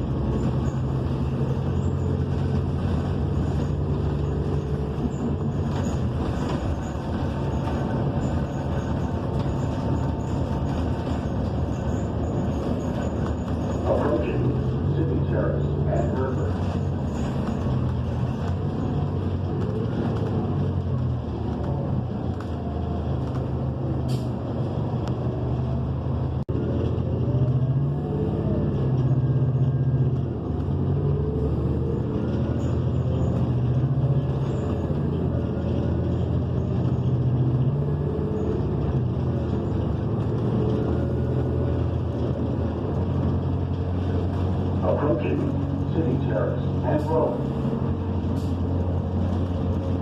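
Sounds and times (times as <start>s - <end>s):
bus engine while driving: 0.0s - 50.0s.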